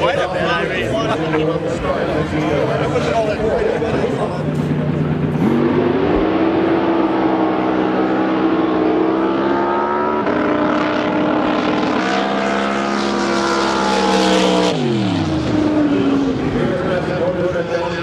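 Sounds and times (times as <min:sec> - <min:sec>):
drag boat engine at full throttle: 0:00.0 - 0:18.0.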